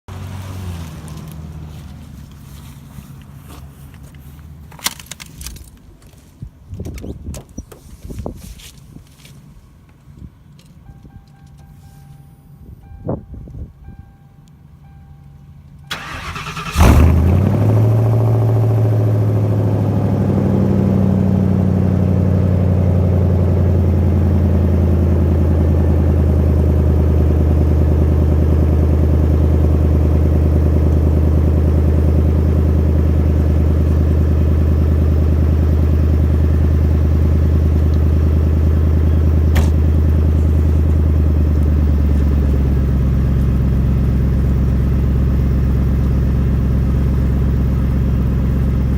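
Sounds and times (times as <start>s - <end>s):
car engine starting and idling: 9.4s - 48.9s.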